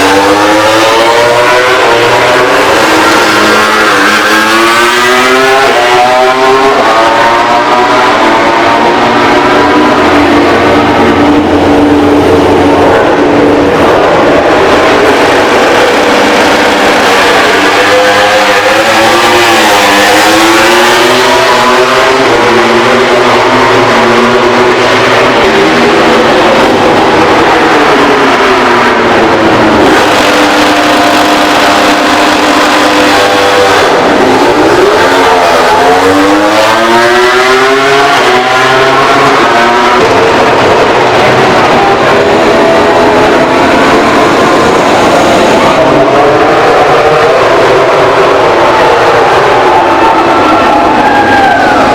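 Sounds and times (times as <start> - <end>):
race motorcycle engines revving: 0.0 - 51.9.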